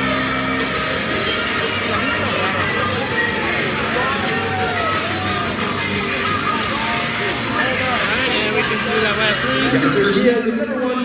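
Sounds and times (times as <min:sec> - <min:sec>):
crowd noise: 0:00.0 - 0:11.0
music over public address: 0:00.0 - 0:11.0.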